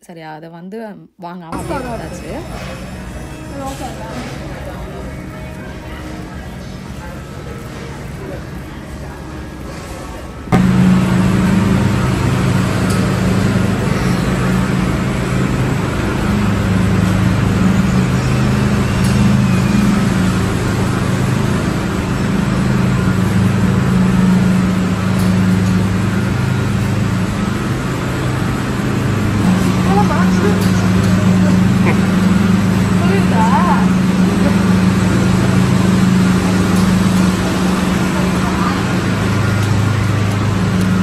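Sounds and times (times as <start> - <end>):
road noise: 1.6 - 41.0
vehicle engine hum: 1.6 - 41.0.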